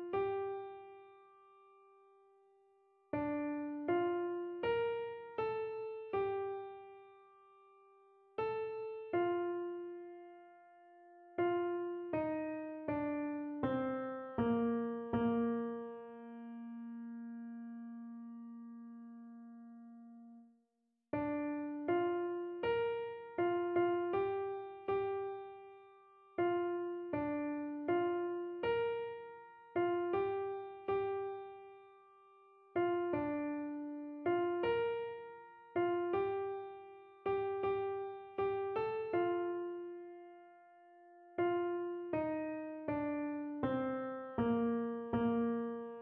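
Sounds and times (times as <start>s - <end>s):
piano melody: 0.0s - 1.8s, 3.1s - 7.3s, 8.4s - 20.1s, 21.2s - 46.0s.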